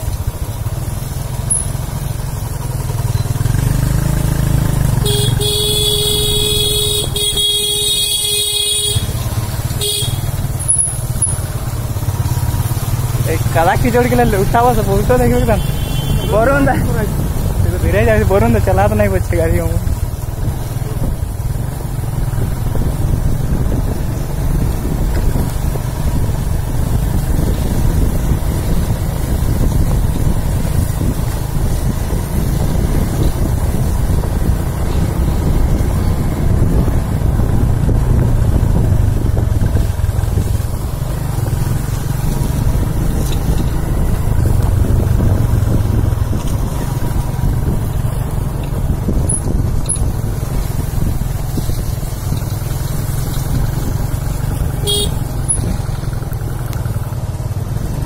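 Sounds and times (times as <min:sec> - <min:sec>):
motorcycle engines droning: 0:00.0 - 0:58.0
wind buffeting microphone: 0:08.9 - 0:58.0.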